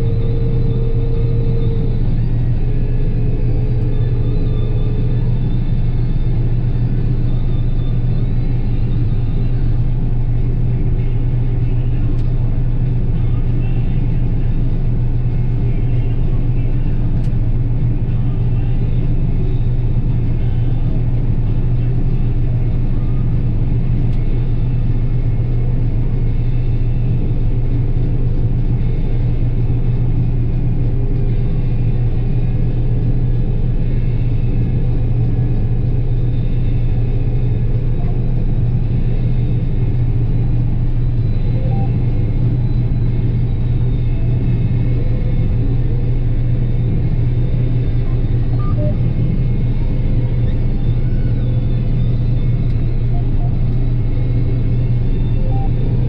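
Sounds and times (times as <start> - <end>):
combine harvester drone: 0.0 - 56.0.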